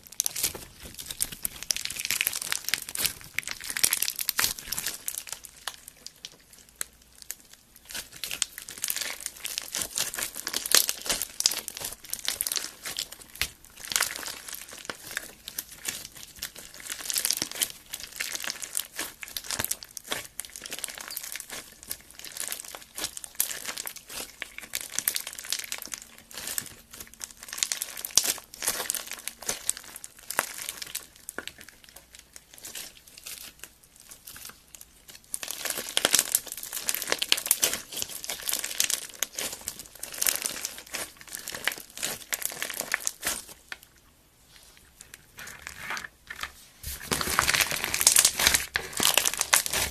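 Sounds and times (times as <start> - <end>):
slime crackling and crunching: 0.0 - 49.9.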